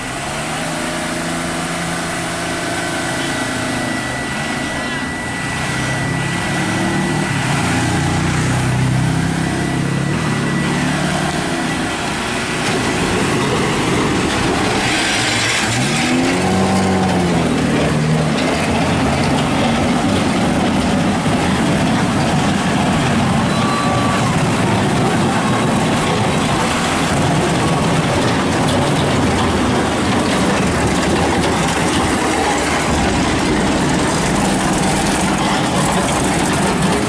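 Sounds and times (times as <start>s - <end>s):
loud continuous noise: 0.0s - 37.0s
vehicle engines running: 0.0s - 37.0s.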